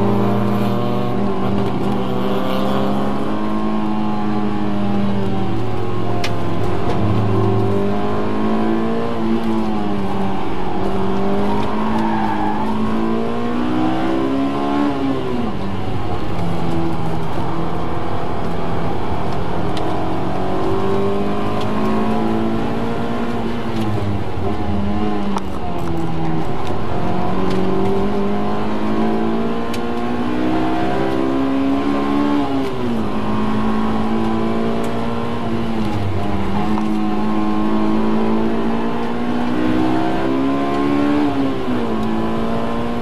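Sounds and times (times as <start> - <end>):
car engine revving high: 0.0 - 43.0
wind and tyre noise: 0.0 - 43.0.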